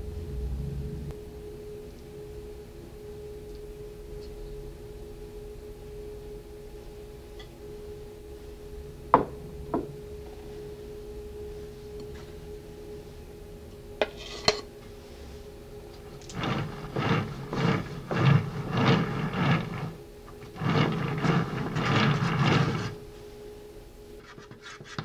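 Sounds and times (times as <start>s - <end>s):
steady tonal hum: 0.0s - 24.9s.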